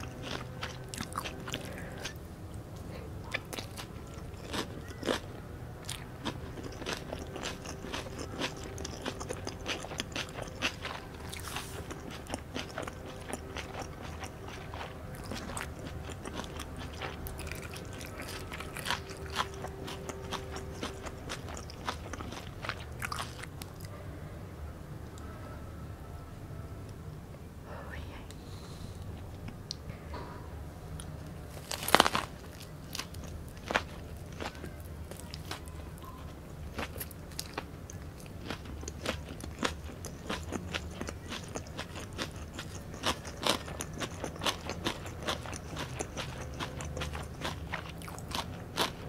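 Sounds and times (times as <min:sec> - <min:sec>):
crunchy chewing: 0:00.0 - 0:23.9, 0:30.9 - 0:49.0.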